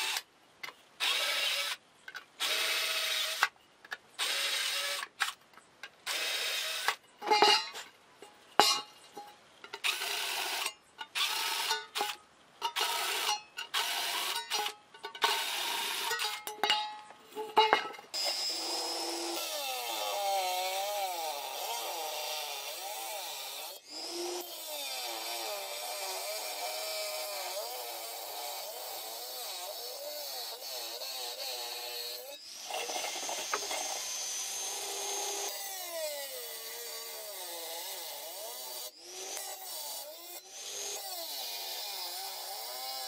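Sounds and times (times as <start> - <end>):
cordless drill boring through steel: 1.0 - 1.8, 2.4 - 3.5, 4.2 - 5.1, 6.1 - 7.0, 9.8 - 12.2, 12.8 - 16.4, 18.2 - 43.0.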